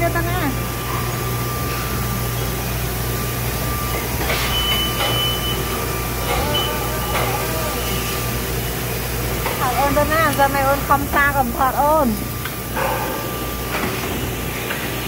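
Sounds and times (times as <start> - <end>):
thin steady whine: 0.0 - 14.9
machines humming: 0.0 - 15.0.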